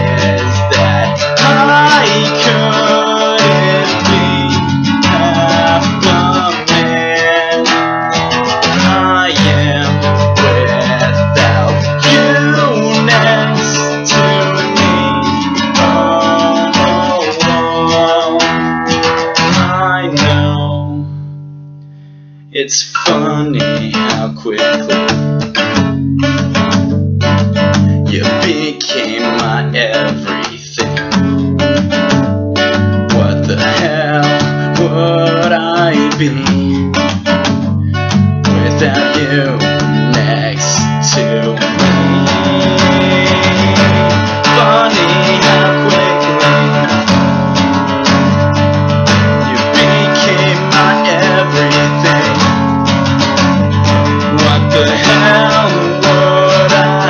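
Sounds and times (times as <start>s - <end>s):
man singing: 0.0s - 21.2s, 22.5s - 25.3s, 28.0s - 32.2s, 33.0s - 48.4s, 49.0s - 57.0s
acoustic guitar strumming: 0.0s - 57.0s.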